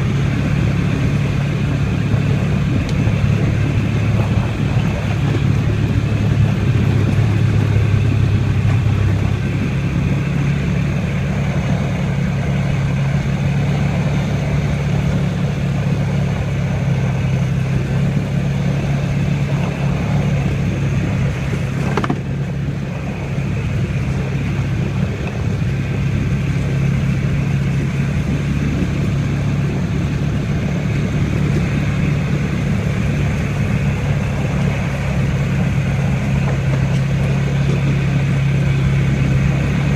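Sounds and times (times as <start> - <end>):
atv engine running: 0.0 - 39.9
rushing noise: 0.0 - 39.9.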